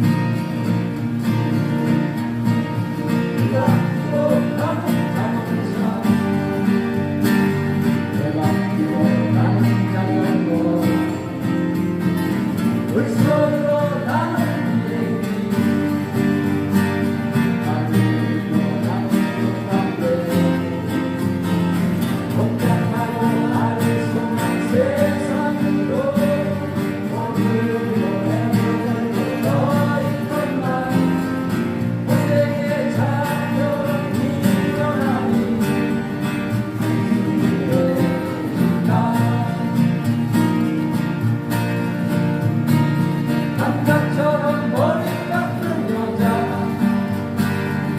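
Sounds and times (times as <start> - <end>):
acoustic guitars strumming: 0.0 - 47.9
person singing: 3.2 - 11.5, 12.8 - 16.6, 17.2 - 21.4, 22.2 - 40.1, 43.5 - 47.9.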